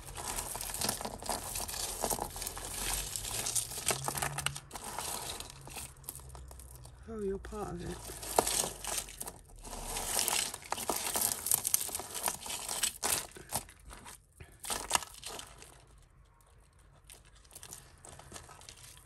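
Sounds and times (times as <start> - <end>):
jewellery clicking and rustling: 0.0 - 7.0, 7.9 - 19.0.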